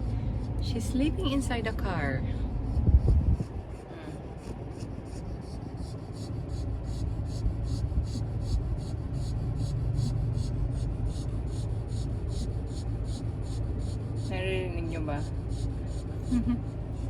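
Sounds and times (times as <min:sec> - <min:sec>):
steady low hum: 0:00.0 - 0:17.0
dog snoring: 0:02.8 - 0:17.0.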